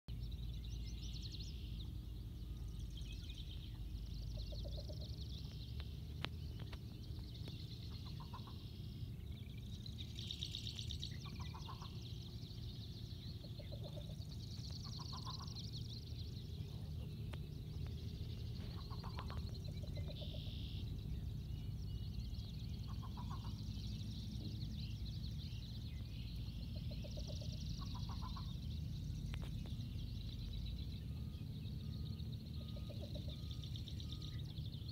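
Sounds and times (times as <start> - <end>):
low rumble: 0.1 - 34.9
bitterns pulsed cooing calls: 0.2 - 34.9.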